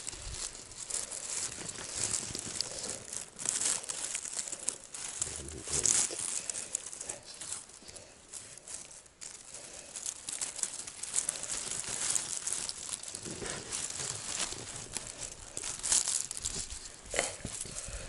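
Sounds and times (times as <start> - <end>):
poles clicking and cracking: 0.0 - 17.9
brush rustling and crinkling: 0.0 - 18.0.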